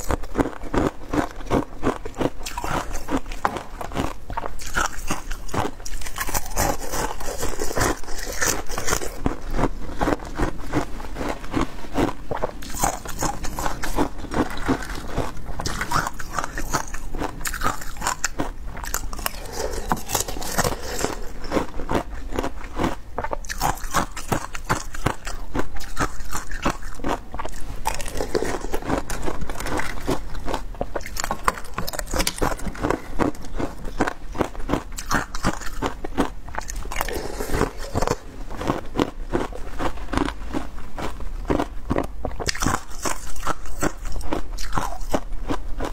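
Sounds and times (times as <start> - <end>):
chewing ice crunches: 0.0 - 45.9.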